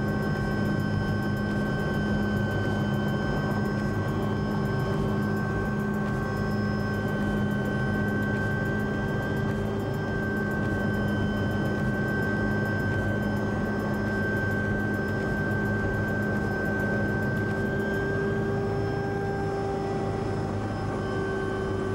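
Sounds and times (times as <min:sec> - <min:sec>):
helicopter engine and rotor drone: 0:00.0 - 0:21.9.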